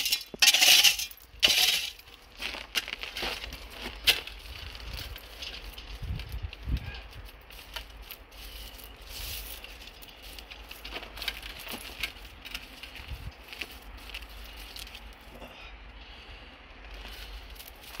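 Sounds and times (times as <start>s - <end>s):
dry grass rustling and crackling: 0.0s - 15.4s, 16.8s - 18.0s.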